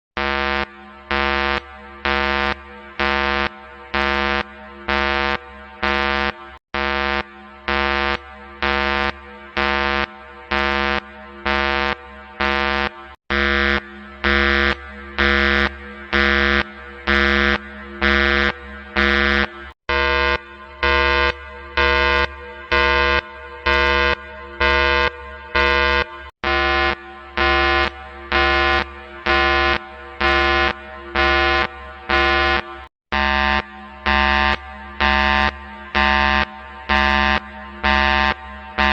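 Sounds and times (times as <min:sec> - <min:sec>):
pulsing buzzy alarm tone: 0:00.2 - 0:38.9.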